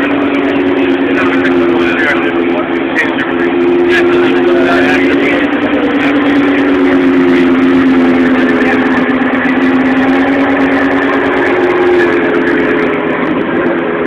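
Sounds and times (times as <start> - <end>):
sports car engine idling: 0.0 - 14.0.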